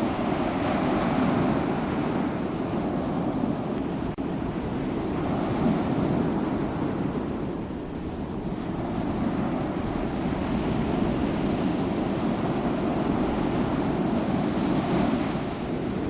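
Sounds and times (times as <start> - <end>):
sea waves breaking on shore: 0.0 - 16.0.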